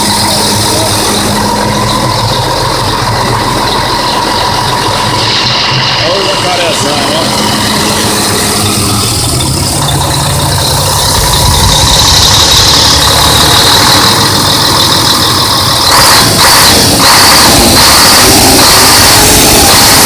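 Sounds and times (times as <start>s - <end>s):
diesel truck engine running: 0.0s - 20.0s
steady high whine: 0.0s - 20.0s.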